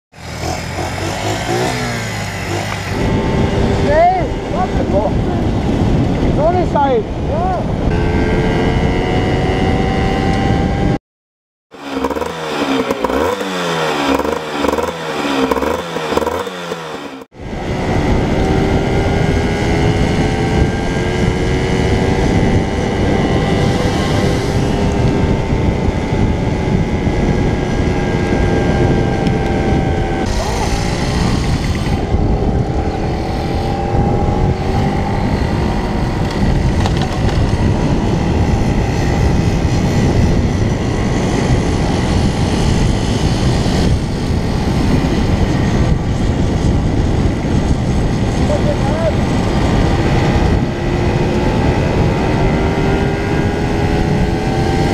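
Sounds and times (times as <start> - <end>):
motorcycle engine running: 0.2 - 6.8, 11.8 - 54.9
wind noise: 0.2 - 11.0, 11.8 - 54.9.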